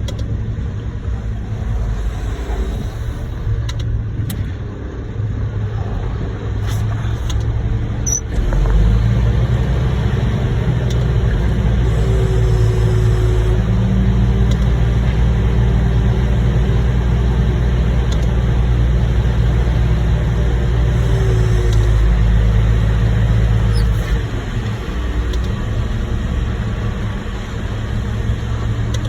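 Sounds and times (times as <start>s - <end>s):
heavy diesel engine rumbling: 0.0s - 29.0s.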